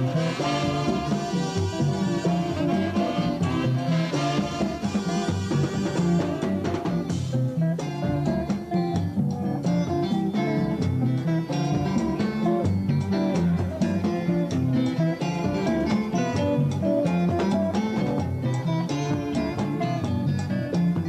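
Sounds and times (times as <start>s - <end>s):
bass: 0.0s - 21.0s
plucked guitar lines: 0.0s - 21.0s
steady drum beat: 0.0s - 21.0s.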